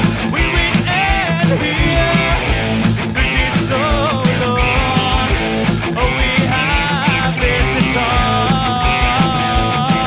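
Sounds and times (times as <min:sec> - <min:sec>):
bass guitar: 0:00.0 - 0:10.0
drum beat: 0:00.0 - 0:10.0
electric guitars: 0:00.0 - 0:10.0.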